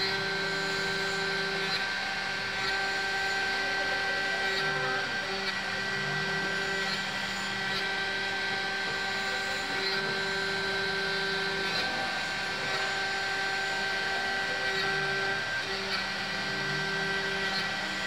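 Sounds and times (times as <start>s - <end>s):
milling machine whining: 0.0s - 18.0s.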